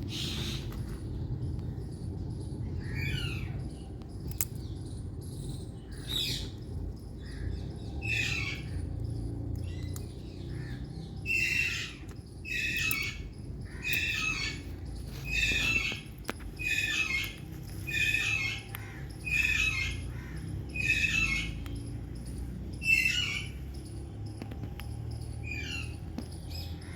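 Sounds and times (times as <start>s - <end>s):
low steady rumble: 0.0s - 26.9s.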